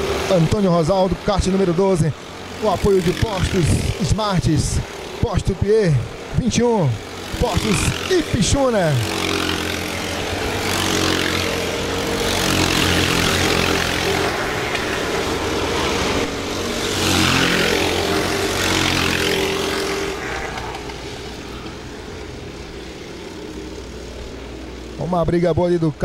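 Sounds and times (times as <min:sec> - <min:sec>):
racing kart engines passing: 0:00.0 - 0:26.0.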